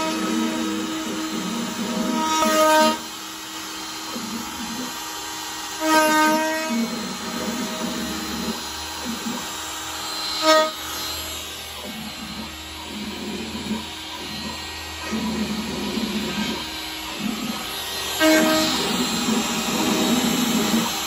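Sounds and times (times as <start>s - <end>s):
router carving wood: 0.0s - 21.0s.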